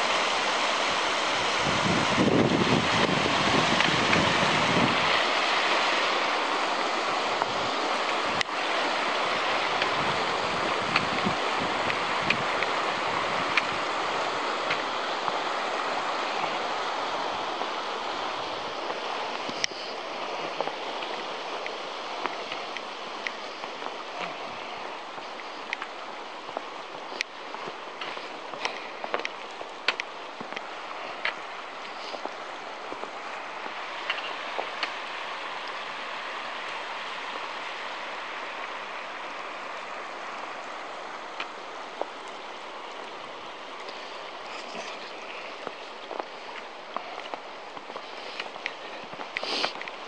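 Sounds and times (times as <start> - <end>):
river rushing over rocks: 0.0 - 50.0
wind rumble on microphone: 0.0 - 50.0.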